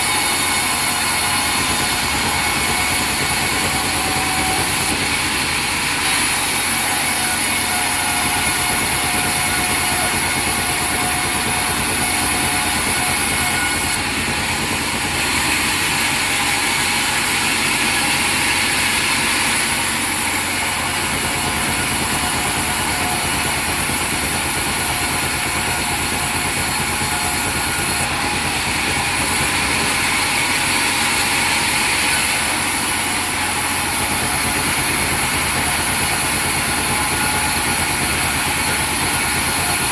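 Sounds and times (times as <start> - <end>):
sawmill machinery whine: 0.0 - 39.9.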